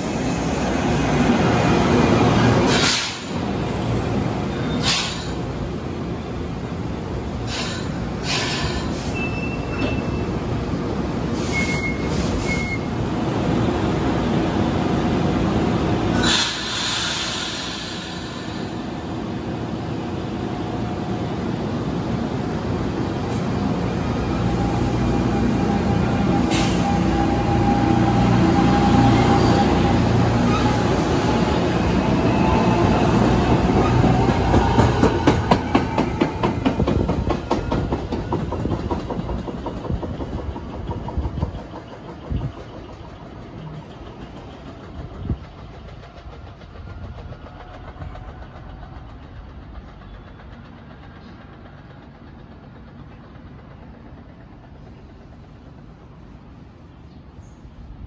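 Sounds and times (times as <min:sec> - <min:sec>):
passenger train pulling away: 0:00.0 - 0:58.0.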